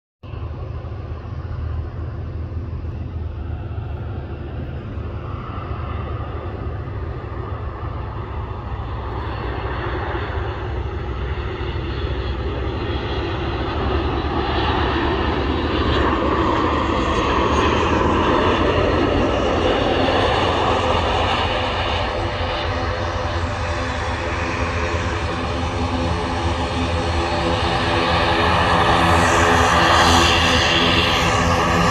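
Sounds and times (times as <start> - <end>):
jet airliner landing: 0.2 - 31.9.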